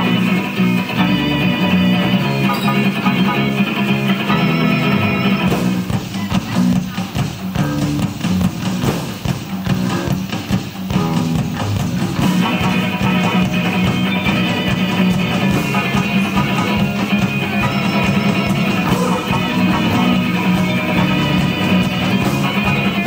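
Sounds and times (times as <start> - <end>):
rock music with guitar: 0.0 - 23.0.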